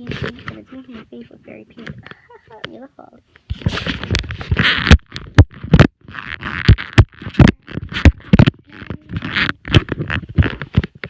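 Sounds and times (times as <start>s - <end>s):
rustling scrapes: 0.0s - 11.0s.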